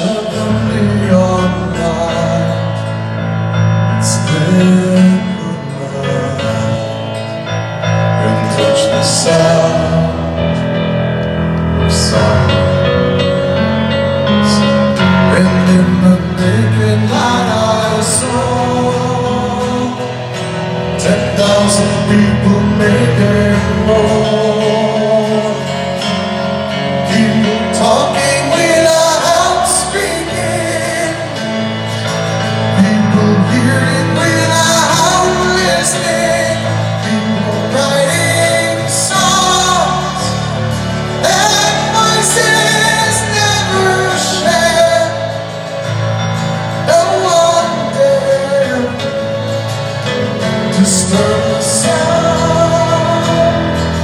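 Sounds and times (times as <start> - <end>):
lead vocal singing: 0.0 - 11.0, 11.8 - 54.0
live rock ballad: 0.0 - 54.0.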